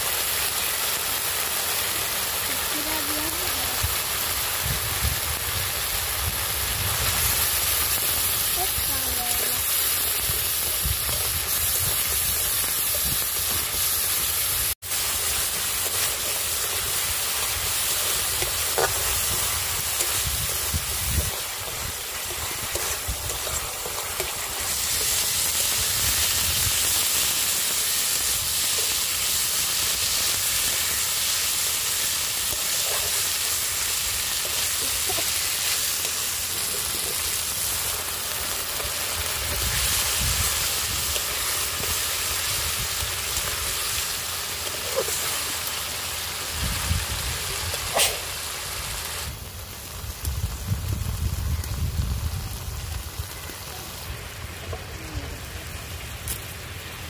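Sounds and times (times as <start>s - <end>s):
paste sizzling in hot oil: 0.0s - 57.0s.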